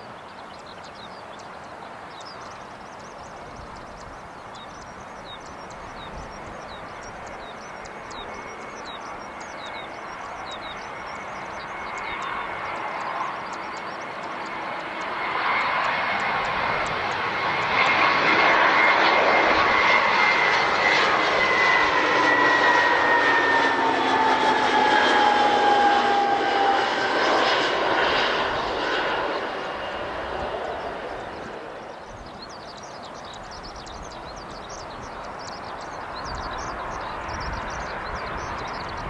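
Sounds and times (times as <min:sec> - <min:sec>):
jet airliner passing: 0:00.0 - 0:39.0.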